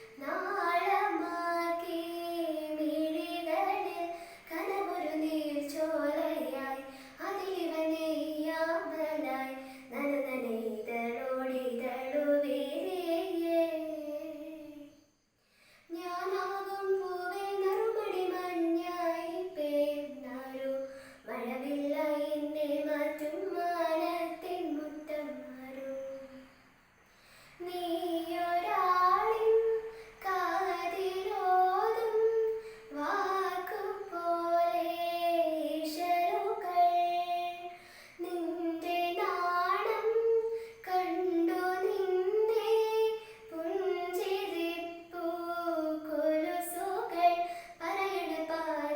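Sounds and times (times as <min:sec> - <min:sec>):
girl singing unaccompanied: 0:00.0 - 0:48.9.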